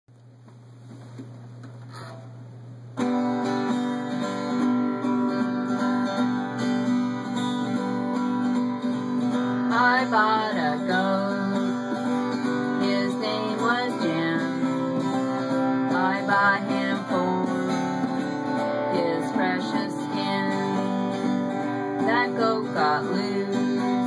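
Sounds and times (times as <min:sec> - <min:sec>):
acoustic guitar strumming: 0:03.0 - 0:24.0.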